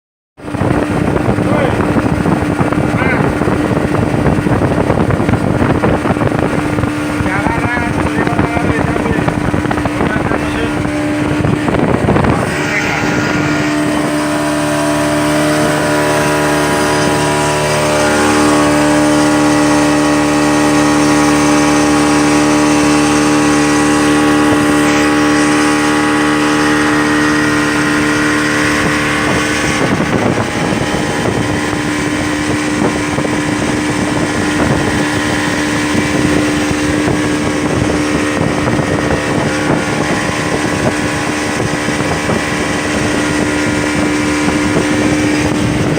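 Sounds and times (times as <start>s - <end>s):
outboard motor running: 0.4s - 45.9s.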